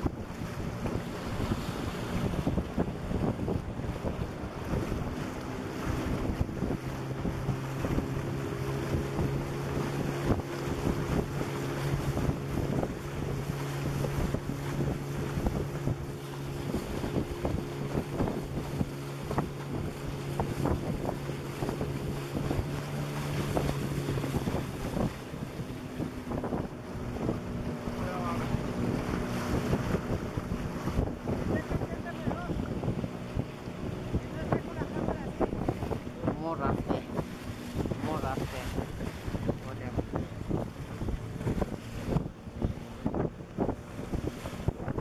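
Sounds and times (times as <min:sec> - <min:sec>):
outboard motor running: 0:00.0 - 0:45.0
water rushing past hull: 0:00.0 - 0:45.0
wind buffeting microphone: 0:00.0 - 0:45.0.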